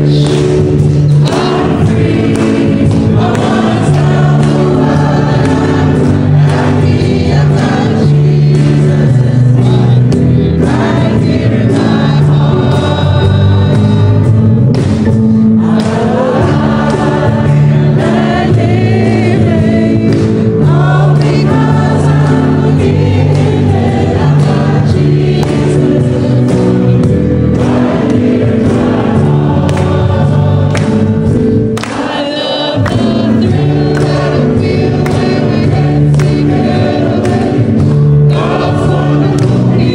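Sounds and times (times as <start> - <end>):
choir singing gospel: 0.0 - 39.9.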